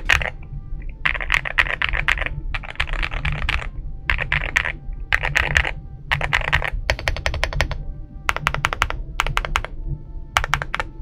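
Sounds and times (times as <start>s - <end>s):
mechanical keyboard typing: 0.0s - 0.3s, 1.0s - 9.8s, 10.4s - 10.9s.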